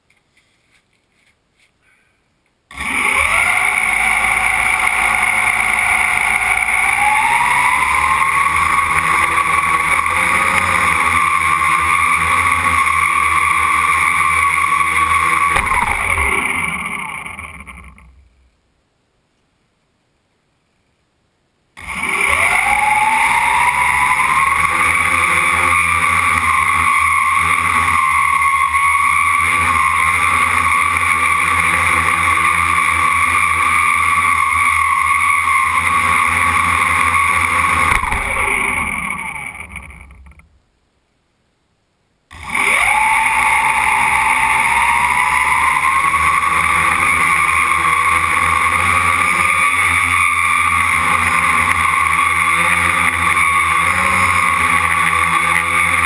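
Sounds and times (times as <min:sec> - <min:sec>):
quadcopter propellers whining: 0:02.7 - 0:18.5, 0:21.8 - 0:40.5, 0:42.3 - 0:56.0.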